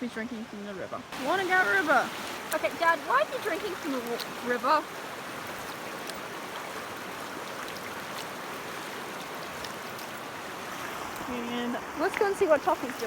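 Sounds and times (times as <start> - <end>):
water rushing over stones: 1.1 - 13.0.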